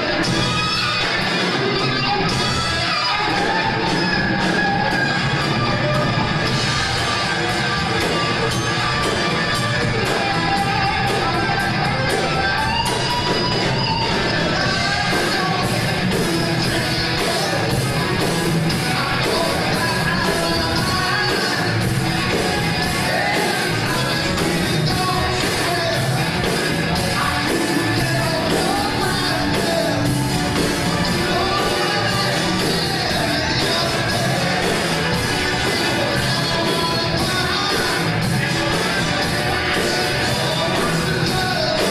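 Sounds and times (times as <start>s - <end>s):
person singing: 0.0s - 41.9s
rock band music: 0.0s - 41.9s.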